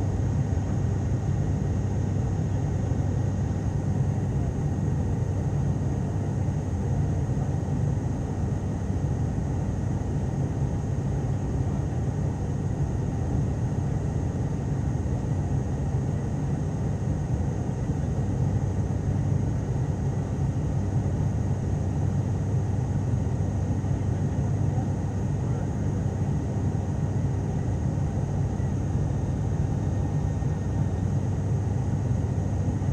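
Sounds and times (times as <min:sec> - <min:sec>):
turboprop cabin drone: 0:00.0 - 0:32.9.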